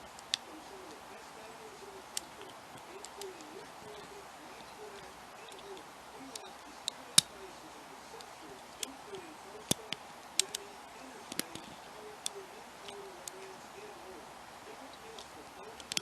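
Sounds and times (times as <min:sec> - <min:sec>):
faint wavering hum: 0:00.0 - 0:16.0.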